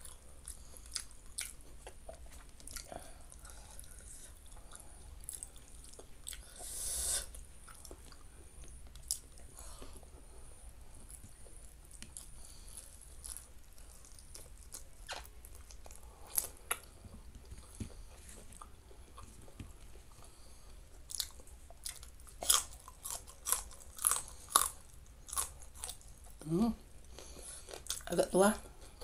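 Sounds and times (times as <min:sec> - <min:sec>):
soft chewing and clicks: 0:00.0 - 0:06.7, 0:07.3 - 0:10.2, 0:10.9 - 0:29.0.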